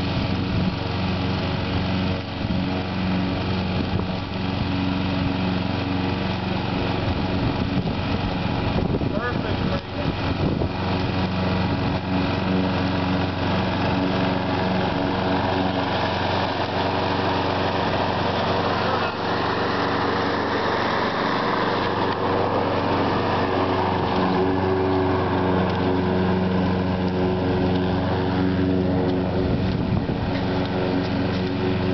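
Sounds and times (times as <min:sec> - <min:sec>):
lawn mower engine running: 0:00.0 - 0:31.9.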